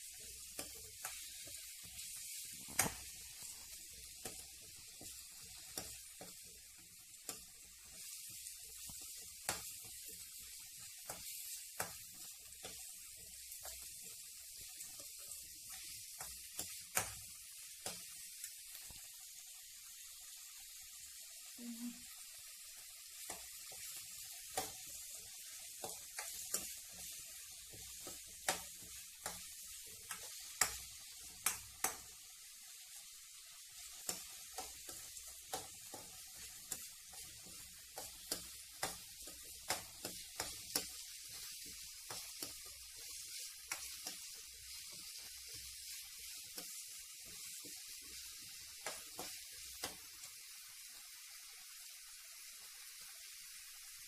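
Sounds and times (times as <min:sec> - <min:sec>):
vegetables sizzling in a pan: 0:00.0 - 0:54.0.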